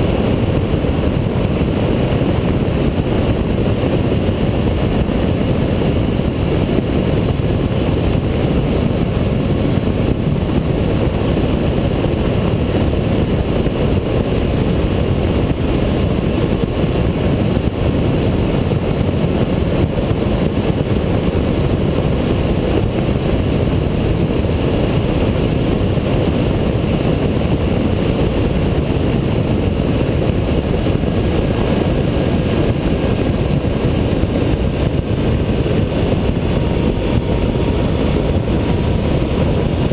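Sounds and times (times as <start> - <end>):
motorcycle engine and tyre noise: 0.0 - 39.9
wind rushing on microphone: 0.0 - 39.9.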